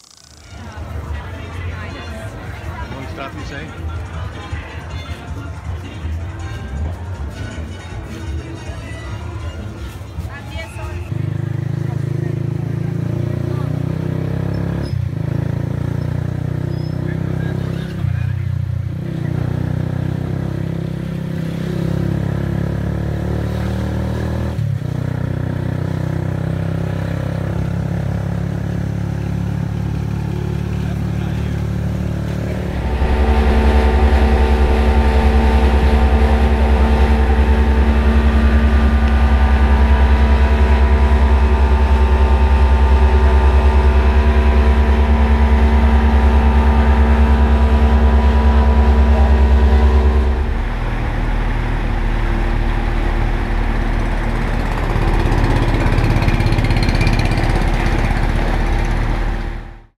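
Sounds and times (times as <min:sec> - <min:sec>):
engine running: 0:00.0 - 1:00.0.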